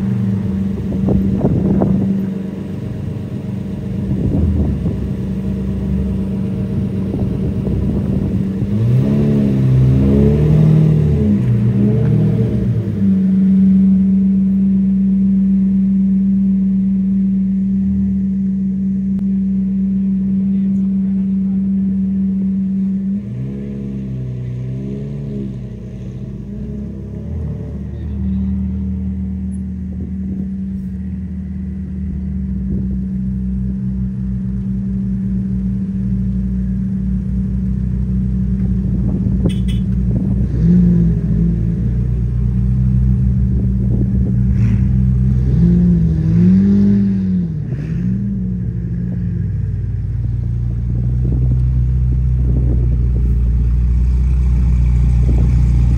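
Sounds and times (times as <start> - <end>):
car engines droning: 0.0 - 55.9
engine throttle blips: 0.0 - 55.9.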